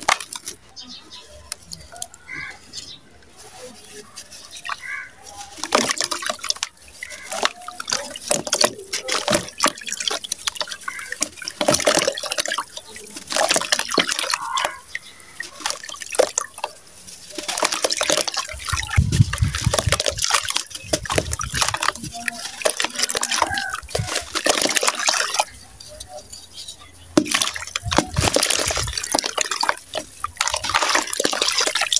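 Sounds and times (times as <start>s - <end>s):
grit splashing into water: 0.0s - 0.6s, 3.4s - 31.9s.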